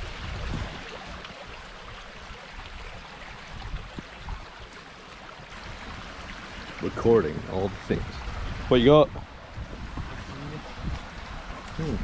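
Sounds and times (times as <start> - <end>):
wind rumbling on microphone: 0.0 - 4.7, 5.5 - 12.0
stream running: 0.0 - 12.0.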